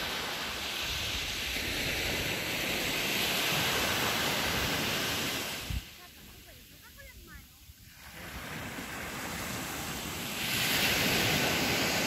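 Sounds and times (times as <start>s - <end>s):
surf on a sandy beach: 0.0s - 12.0s
wind on microphone: 0.0s - 12.0s.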